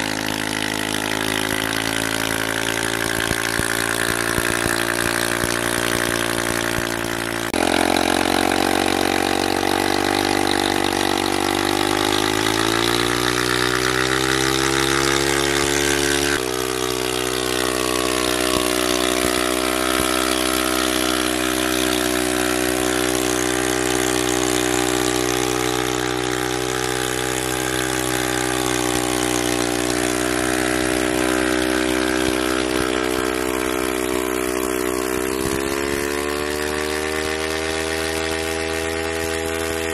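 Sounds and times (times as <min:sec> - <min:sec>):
motorcycle engine running under load: 0:00.0 - 0:39.9.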